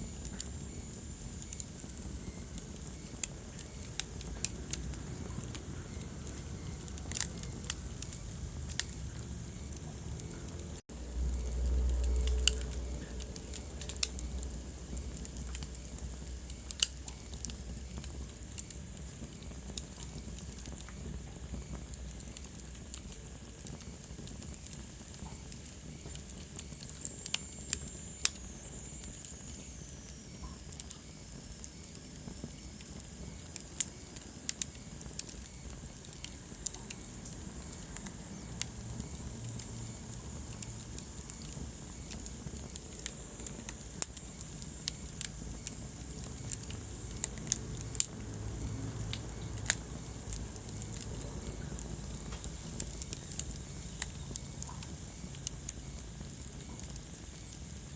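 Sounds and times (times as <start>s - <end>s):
low hiss: 0.0s - 57.9s
wood fire crackling and popping: 0.0s - 57.9s.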